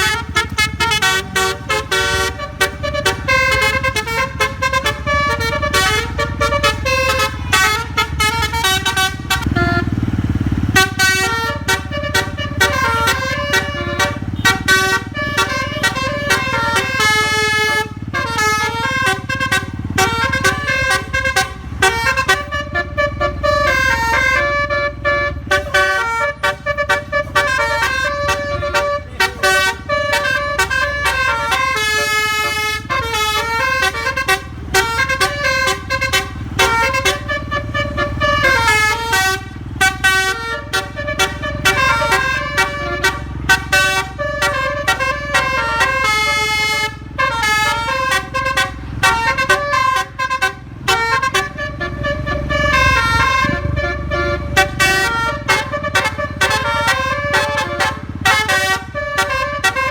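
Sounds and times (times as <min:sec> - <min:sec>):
bus engine running: 0:00.0 - 0:59.9
multi-tone bus horn melody: 0:00.0 - 0:59.9.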